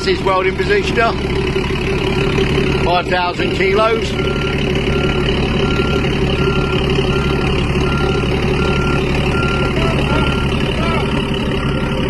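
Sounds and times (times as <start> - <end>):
vehicle reversing alarm beeping: 0.0 - 1.1, 2.0 - 12.0
engine rumbling: 0.0 - 12.0.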